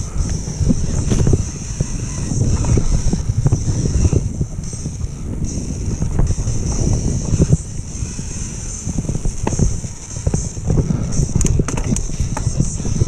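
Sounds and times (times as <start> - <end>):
steady high hiss: 0.0 - 11.3
bike knocking and rattling: 0.0 - 13.0
bike tyres on rough dirt: 0.0 - 13.0.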